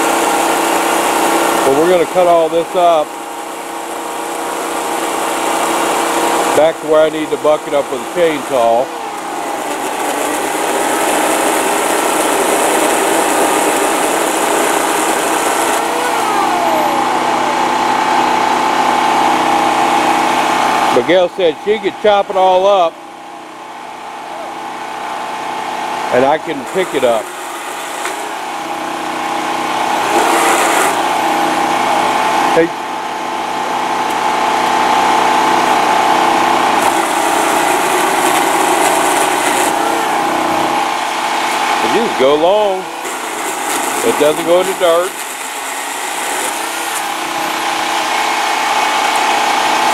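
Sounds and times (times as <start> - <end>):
electric chainsaw whirring: 0.0 - 22.7, 24.6 - 49.9
generator engine running: 0.0 - 49.9.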